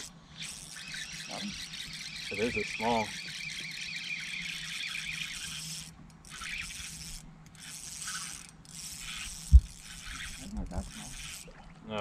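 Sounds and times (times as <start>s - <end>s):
fishing reel gears whirring: 0.0s - 11.7s.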